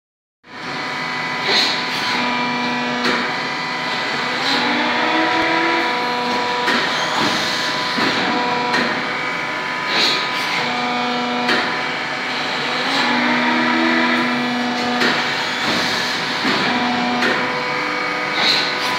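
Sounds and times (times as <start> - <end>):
machine humming with pitched tones: 0.5 - 18.9.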